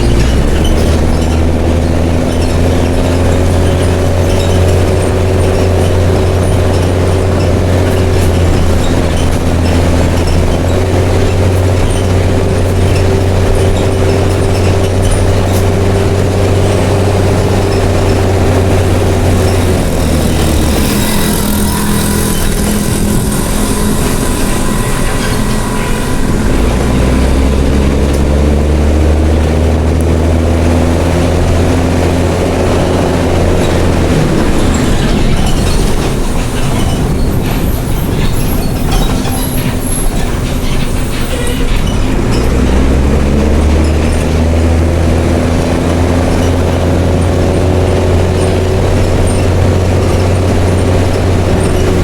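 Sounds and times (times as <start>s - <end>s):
bus diesel engine: 0.0s - 52.0s.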